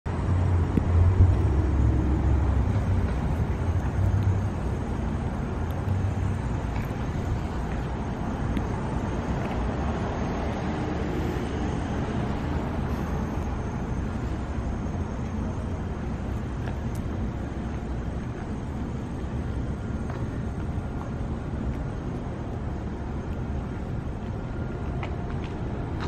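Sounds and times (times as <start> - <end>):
low rumble: 0.1 - 26.0.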